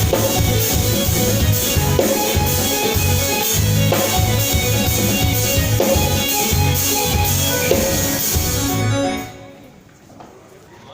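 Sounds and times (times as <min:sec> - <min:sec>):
drums with cymbals: 0:00.0 - 0:08.9
repeating bass line: 0:00.0 - 0:09.3
electric guitar: 0:00.0 - 0:09.9.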